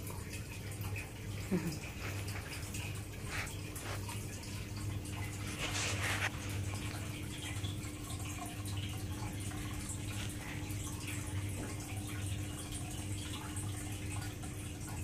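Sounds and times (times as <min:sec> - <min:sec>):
low pump hum: 0:00.0 - 0:15.0
water trickling and bubbling: 0:00.0 - 0:15.0.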